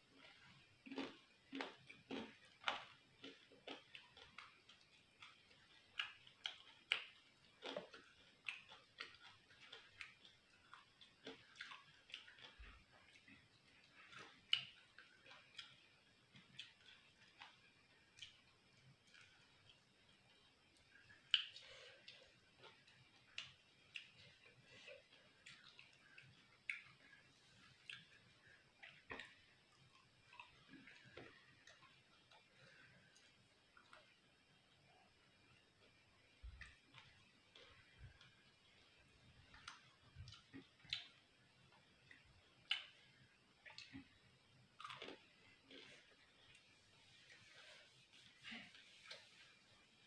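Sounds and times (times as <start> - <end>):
chewing crispy fried food: 0.0 - 50.0.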